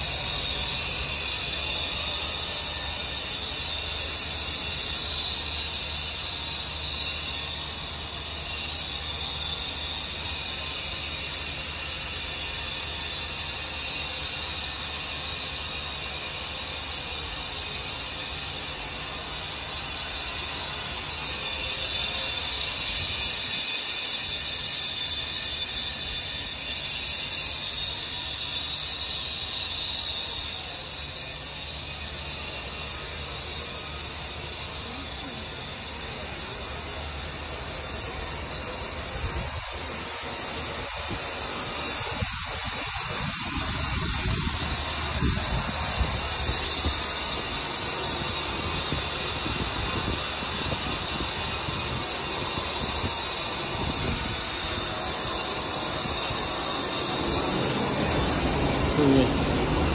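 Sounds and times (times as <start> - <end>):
loud industrial hissing: 0.0 - 59.9.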